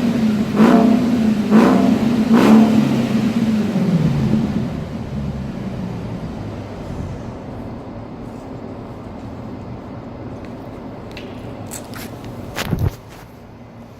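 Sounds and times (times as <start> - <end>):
car engine running at low revs: 0.0 - 13.1.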